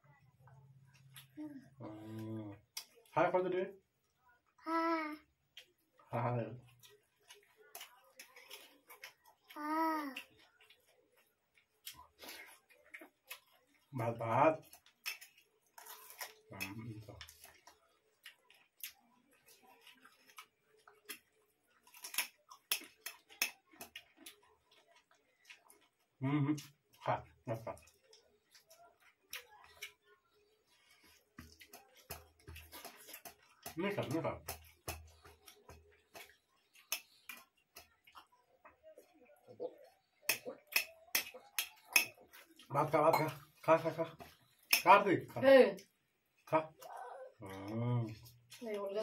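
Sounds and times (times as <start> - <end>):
people chewing: 0.0 - 3.3, 5.3 - 49.0.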